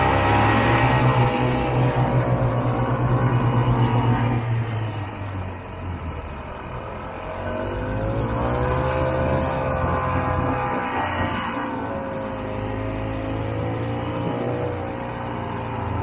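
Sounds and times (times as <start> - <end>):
snowmobile engine revving: 0.0 - 5.0, 6.8 - 16.0.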